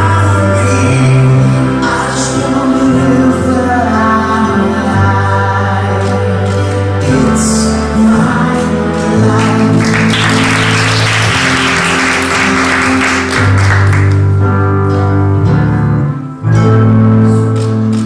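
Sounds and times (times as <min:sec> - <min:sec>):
music with long low notes: 0:00.0 - 0:18.0.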